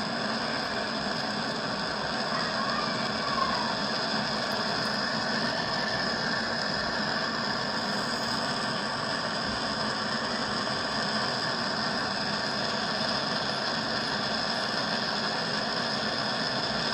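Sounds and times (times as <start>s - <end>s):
motor running steadily: 0.0s - 16.9s.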